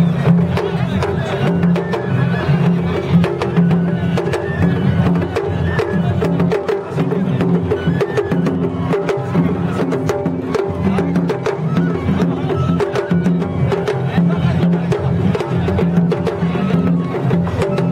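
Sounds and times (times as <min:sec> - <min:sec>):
festival drum and percussion music: 0:00.0 - 0:17.9.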